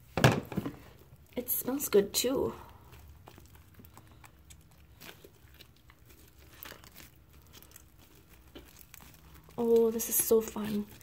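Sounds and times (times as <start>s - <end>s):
slime crackling and tearing: 0.8s - 11.0s.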